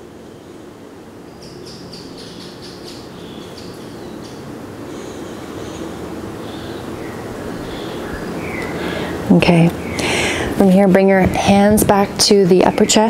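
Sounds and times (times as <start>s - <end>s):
birds chirping: 1.2s - 13.0s.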